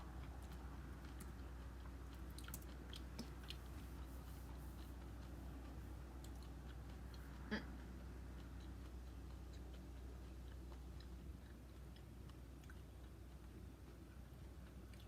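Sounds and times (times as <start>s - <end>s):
chewing crunchy cereal: 0.0s - 15.0s
low steady hum: 0.0s - 15.0s.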